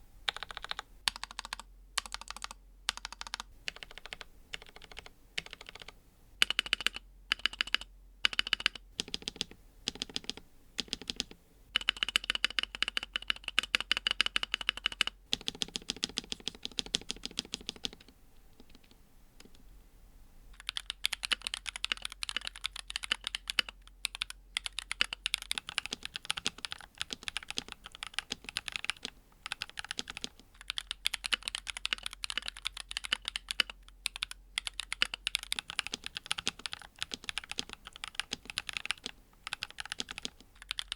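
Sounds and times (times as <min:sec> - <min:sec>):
mechanical keyboard typing: 0:00.3 - 0:19.6, 0:20.6 - 0:40.9.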